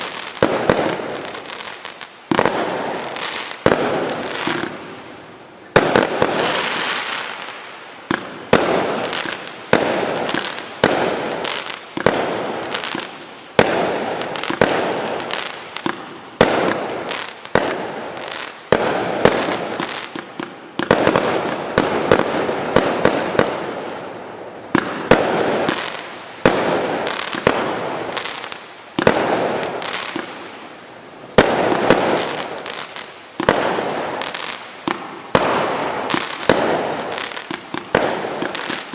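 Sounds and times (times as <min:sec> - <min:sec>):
firework bangs: 0:00.0 - 0:38.9
firework crackling: 0:00.0 - 0:38.9.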